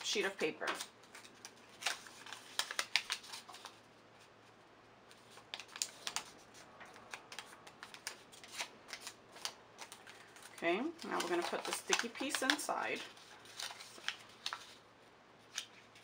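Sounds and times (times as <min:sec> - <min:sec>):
paper crackling and rustling: 0:00.0 - 0:16.0.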